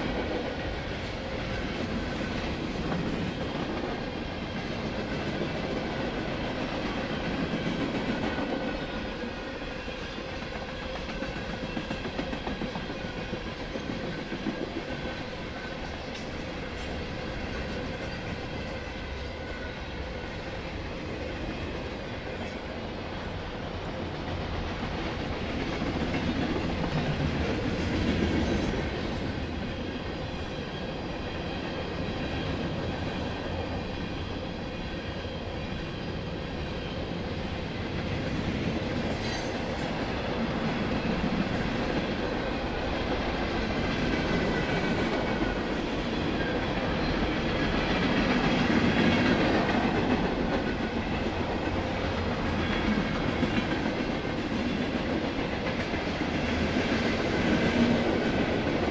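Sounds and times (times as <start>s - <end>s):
clickety-clack over rail joints: 0.0s - 19.2s, 20.7s - 58.9s
steel wheels rumbling on rail: 0.0s - 58.9s.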